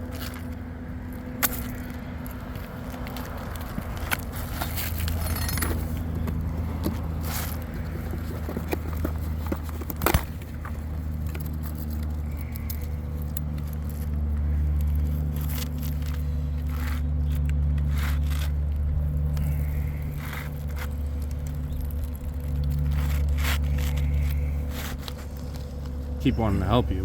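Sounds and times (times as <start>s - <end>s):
scrapes and crackles: 0.0s - 26.2s
steady low hum: 0.0s - 27.0s.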